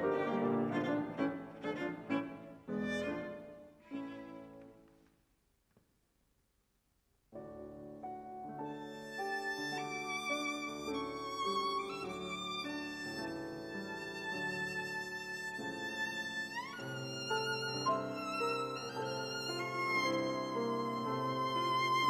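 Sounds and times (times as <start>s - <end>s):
violin playing: 0.0s - 4.8s, 8.7s - 22.0s
piano accompaniment: 0.0s - 4.9s, 7.4s - 22.0s.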